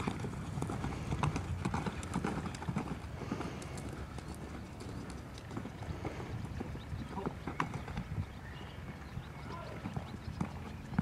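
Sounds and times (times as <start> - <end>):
horse hoofbeats on dirt: 0.0 - 11.0.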